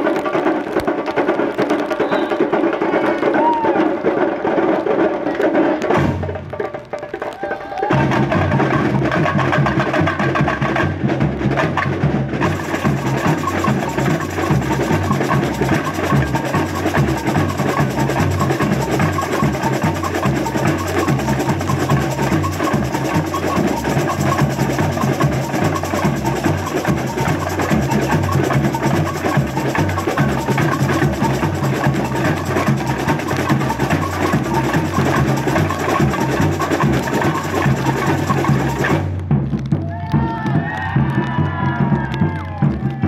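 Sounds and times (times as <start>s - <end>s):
sharp hand percussion: 0.0s - 43.0s
snare drums: 0.0s - 43.0s
deep bass drum beats: 5.8s - 43.0s.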